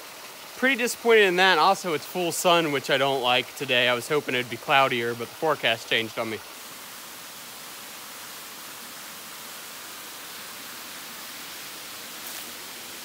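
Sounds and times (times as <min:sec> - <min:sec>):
waterfall rushing and splashing: 0:00.0 - 0:13.0.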